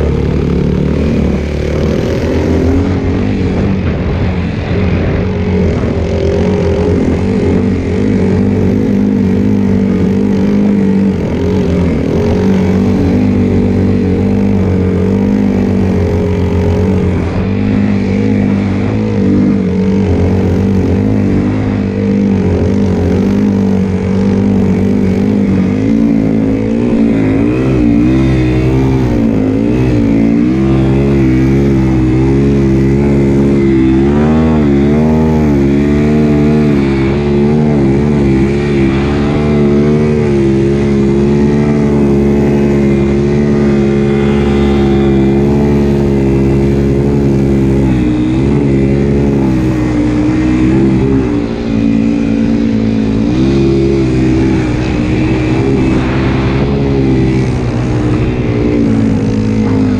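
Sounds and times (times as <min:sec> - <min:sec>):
snowbike engine revving: 0:00.0 - 0:59.9.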